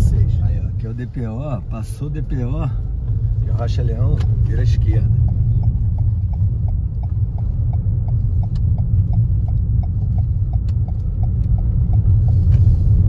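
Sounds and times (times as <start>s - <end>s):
car engine rumble: 0.0s - 13.0s
turn signal ticking: 0.0s - 13.0s.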